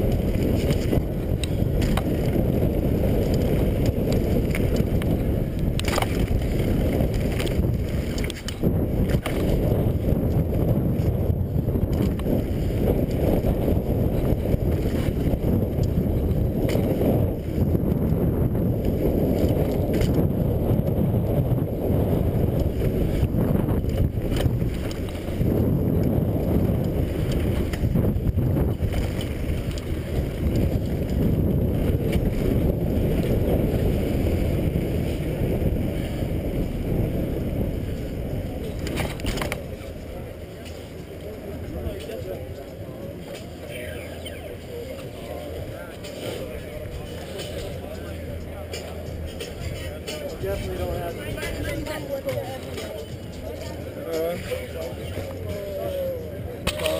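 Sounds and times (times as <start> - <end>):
mountain bike rumbling: 0.0 - 56.9
wind on microphone: 0.0 - 56.9.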